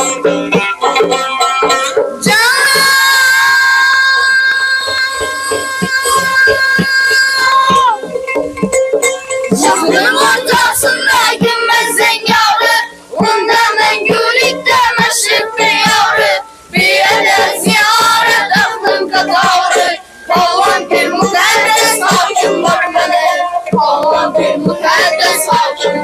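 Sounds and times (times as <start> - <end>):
plucked lutes: 0.0 - 26.0
boys singing: 2.2 - 8.0, 9.5 - 26.0.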